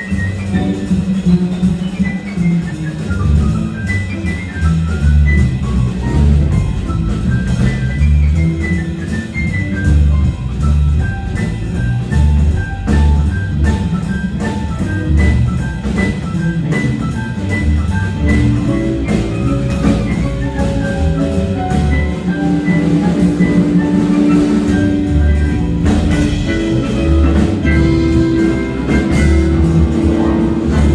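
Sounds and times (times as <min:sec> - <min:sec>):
bass line: 0:00.0 - 0:30.9
drum kit beat: 0:00.0 - 0:30.9.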